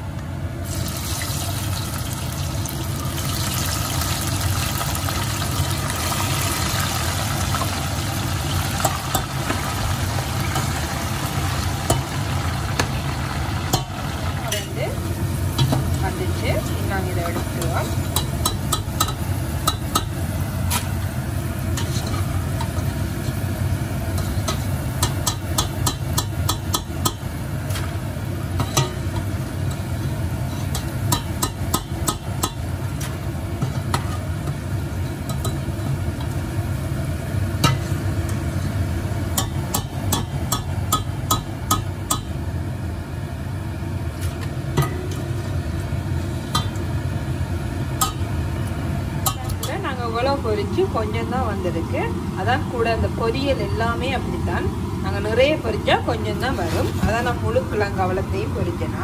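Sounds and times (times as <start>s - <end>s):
chips frying in oil: 0.6s - 50.1s.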